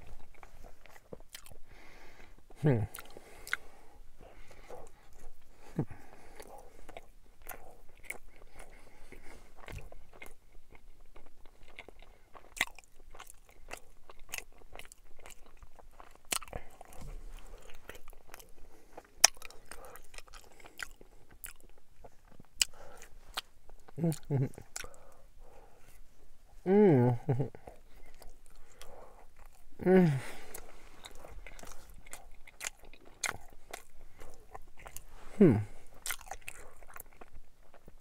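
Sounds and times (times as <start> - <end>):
chewing sandwich: 0.0 - 1.7, 2.3 - 26.1, 27.2 - 38.0.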